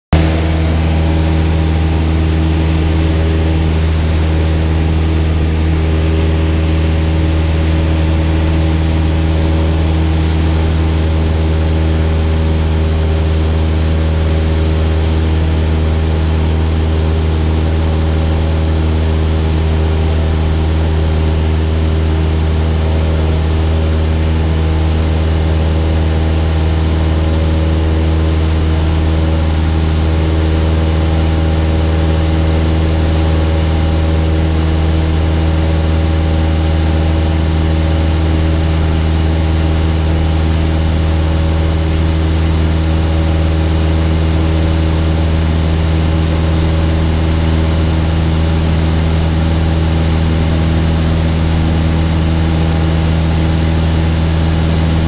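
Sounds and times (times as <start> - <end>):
airplane engine droning: 0.1 - 55.0.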